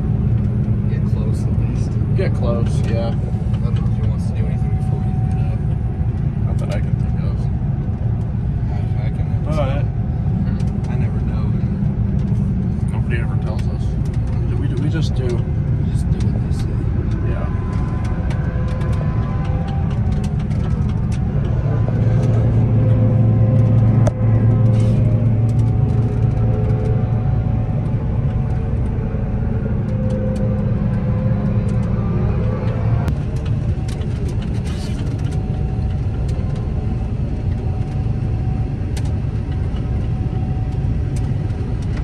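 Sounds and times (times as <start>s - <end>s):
diesel engine droning: 0.0s - 42.0s.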